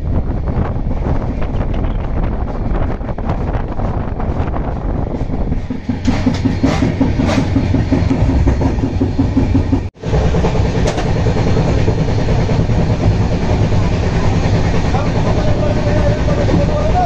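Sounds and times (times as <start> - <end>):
rapid wheel clatter: 0.0 - 17.0
train wheels rumbling on rail: 0.0 - 17.0.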